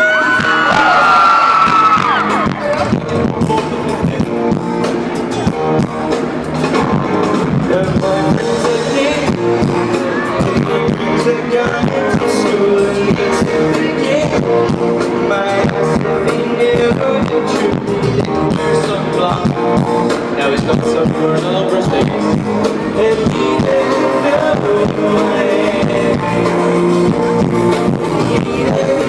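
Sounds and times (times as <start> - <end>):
live pop-rock band with singing: 0.0 - 29.0.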